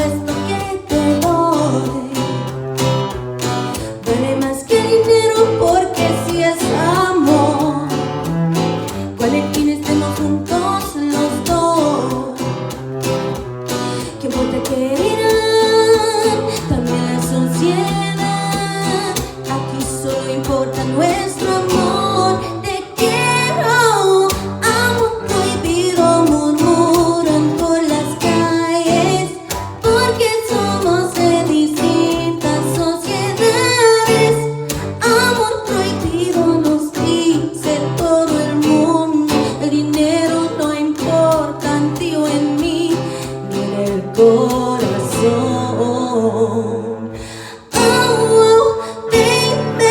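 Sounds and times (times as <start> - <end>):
strummed guitar: 0.0 - 49.9
woman singing: 0.0 - 49.9.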